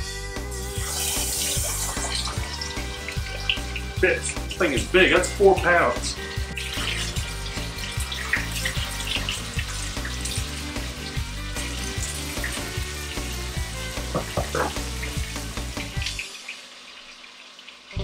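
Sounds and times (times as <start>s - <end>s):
background music: 0.0s - 16.9s
meat sizzling in oil: 0.5s - 18.0s.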